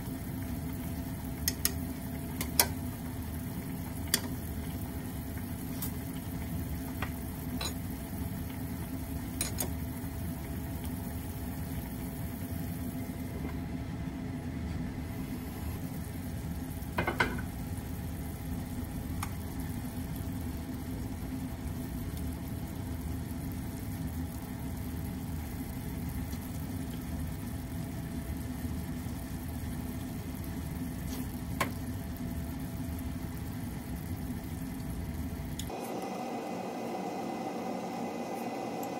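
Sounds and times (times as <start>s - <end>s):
pot simmering with low rumble: 0.0s - 38.9s.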